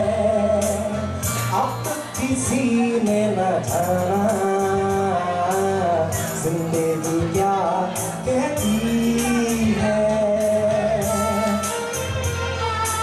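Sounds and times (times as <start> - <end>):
backing music with percussion beat: 0.0 - 13.0
man singing into a microphone: 0.0 - 13.0.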